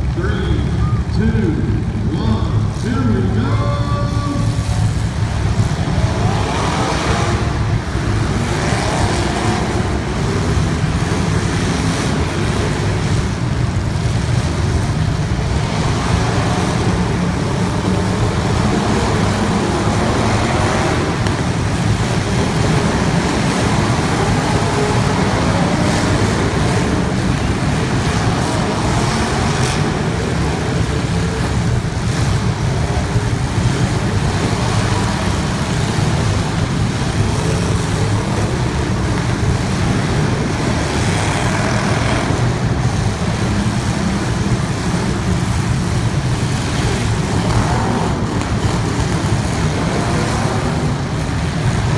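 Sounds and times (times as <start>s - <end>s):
race car engines running: 0.0s - 51.9s.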